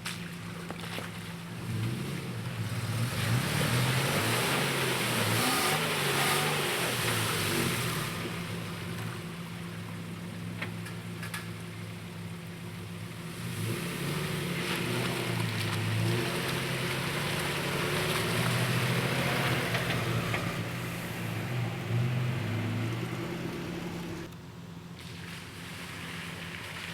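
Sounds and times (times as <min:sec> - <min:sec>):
water and mud splashing: 0:00.0 - 0:10.8, 0:12.4 - 0:24.3, 0:24.9 - 0:26.9
off-road vehicle engine straining: 0:00.0 - 0:26.9.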